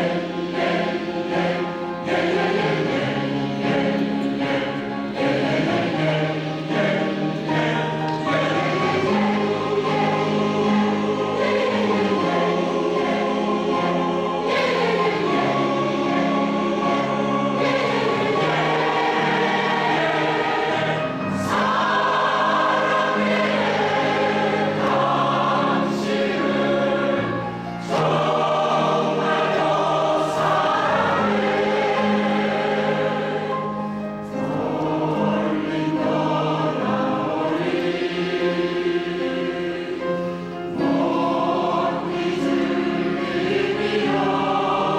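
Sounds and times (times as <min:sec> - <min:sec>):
piano accompaniment: 0:00.0 - 0:44.9
women's choir singing: 0:00.0 - 0:44.9.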